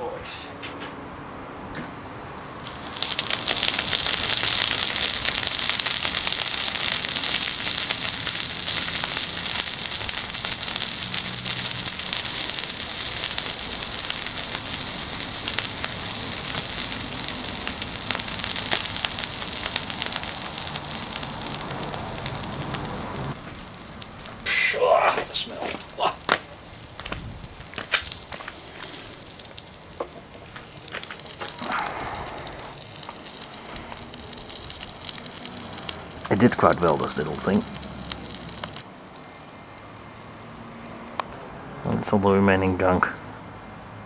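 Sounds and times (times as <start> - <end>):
transformer sizzling and crackling: 2.4 - 41.4.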